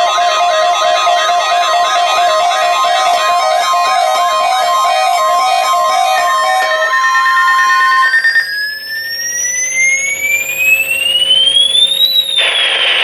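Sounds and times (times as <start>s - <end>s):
electronic siren alarm tone: 0.0s - 13.0s.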